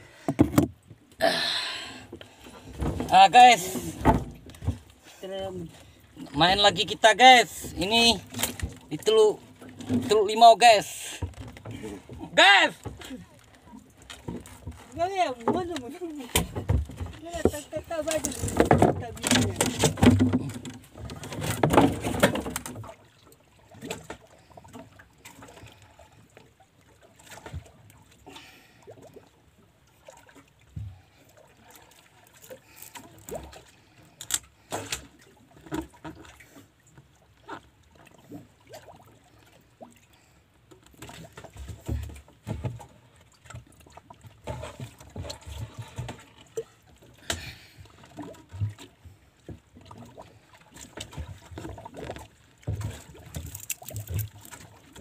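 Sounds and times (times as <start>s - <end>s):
water lapping at hull: 0.0s - 55.0s
boat knocking and creaking: 0.1s - 1.2s, 2.1s - 26.5s, 30.2s - 39.1s, 40.6s - 55.0s.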